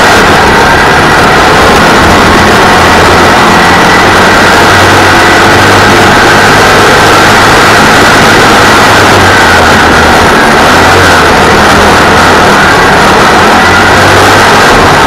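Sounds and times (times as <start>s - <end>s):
race car engine running hard: 0.0s - 15.0s
road and gravel noise: 0.0s - 15.0s.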